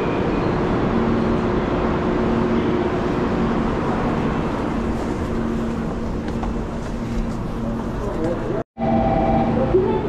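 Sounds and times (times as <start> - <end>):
train rumble and hum: 0.0 - 10.0.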